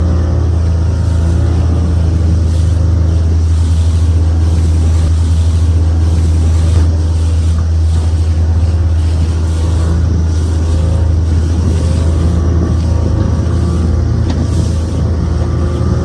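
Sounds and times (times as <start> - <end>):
motorboat engine humming: 0.0 - 16.0
water and wind noise: 0.0 - 16.0.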